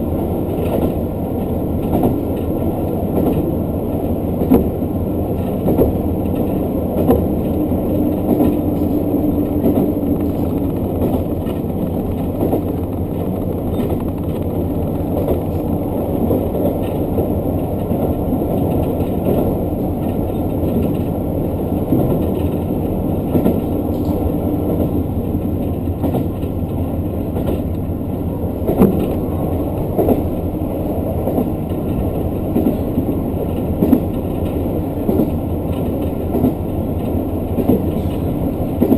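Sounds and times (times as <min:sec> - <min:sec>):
diesel train engine: 0:00.0 - 0:38.9
train rolling rumble: 0:00.0 - 0:38.9
wheels clicking over rails: 0:00.5 - 0:27.9, 0:28.6 - 0:38.9.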